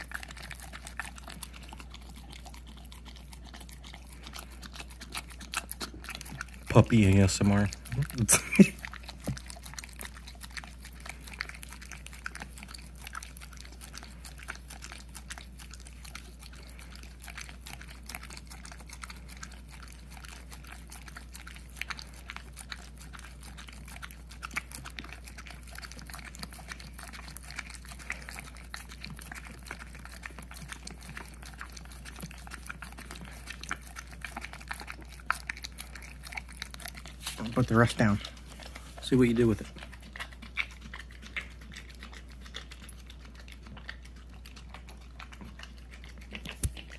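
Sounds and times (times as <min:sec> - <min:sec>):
dog licking and smacking: 0:00.0 - 0:46.9.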